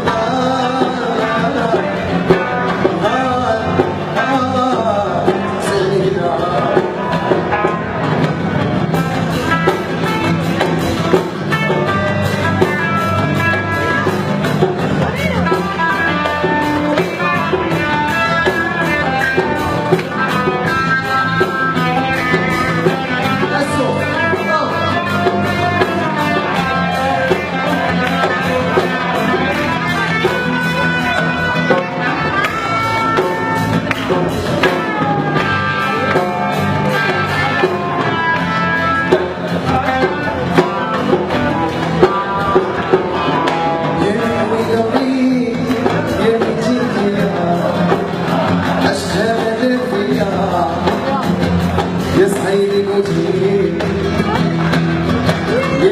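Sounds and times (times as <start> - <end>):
live band with lead guitar: 0.0 - 55.9.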